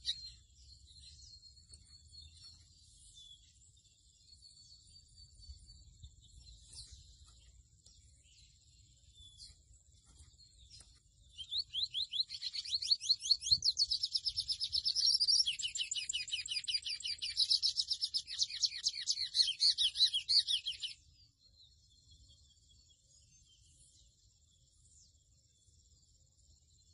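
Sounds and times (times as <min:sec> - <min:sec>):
bird singing high-pitched song: 0:00.0 - 0:26.9.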